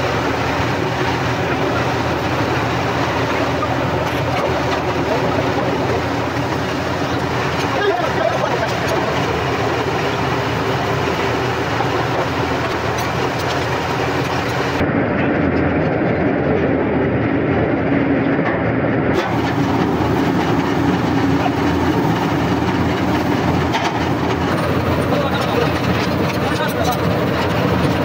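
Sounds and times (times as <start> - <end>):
heavy drilling rig engine: 0.0 - 28.0
mechanical rushing noise: 0.0 - 28.0.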